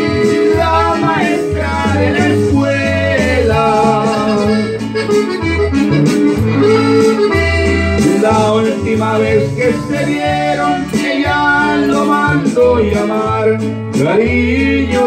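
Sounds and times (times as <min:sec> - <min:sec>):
accordion playing: 0:00.0 - 0:15.0
pulsing bass line: 0:00.0 - 0:15.0.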